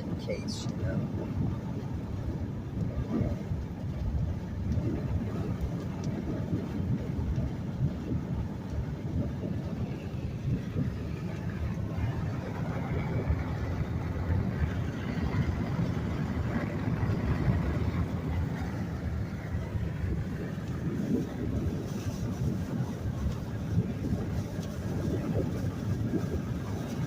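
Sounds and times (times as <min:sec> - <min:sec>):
car engine noise: 0:00.0 - 0:27.0
tyres rumbling on wet road: 0:00.0 - 0:27.0.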